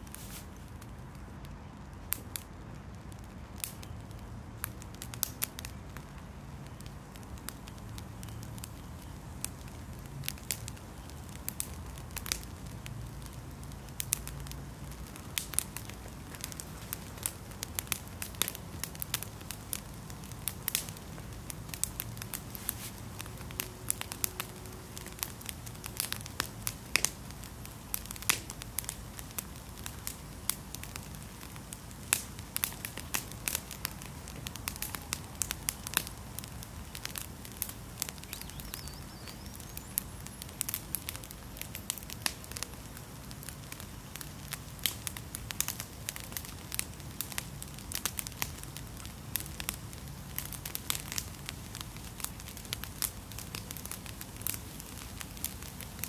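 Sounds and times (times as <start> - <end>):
twigs crackling in a fire: 0.0 - 56.0.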